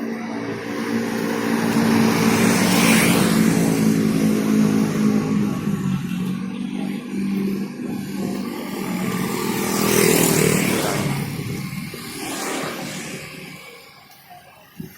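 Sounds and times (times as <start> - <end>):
vehicle engine passing by: 0.0 - 13.7.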